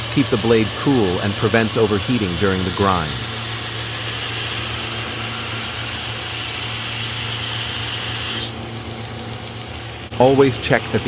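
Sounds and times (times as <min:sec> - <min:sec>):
belt sander grinding knife blade: 0:00.0 - 0:11.0.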